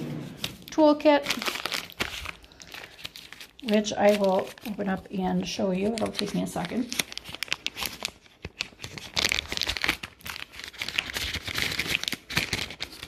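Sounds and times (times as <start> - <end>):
plastic packaging crinkling: 0.3 - 13.0.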